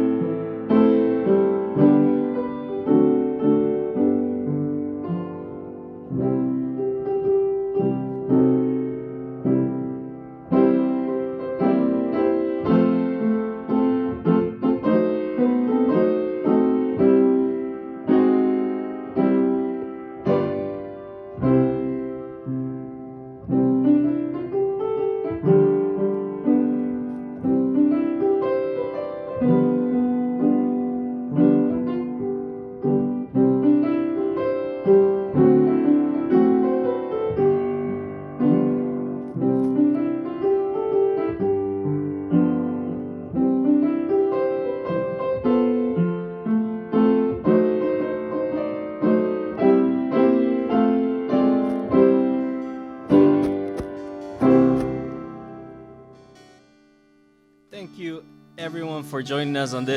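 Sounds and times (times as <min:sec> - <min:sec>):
slow piano chords: 0:00.0 - 0:59.9.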